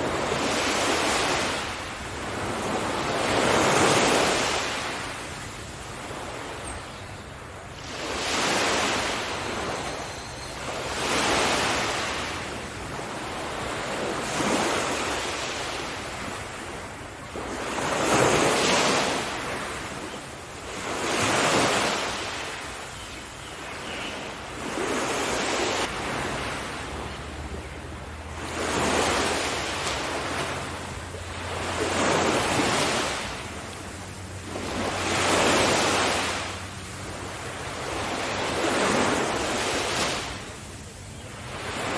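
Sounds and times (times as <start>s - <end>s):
sea waves surging: 0.0s - 6.7s, 7.3s - 23.0s, 23.6s - 41.9s.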